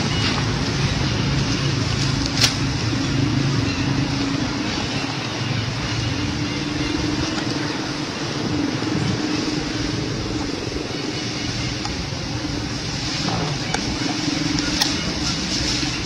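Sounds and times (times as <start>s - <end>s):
motor drone humming: 0.0s - 16.0s.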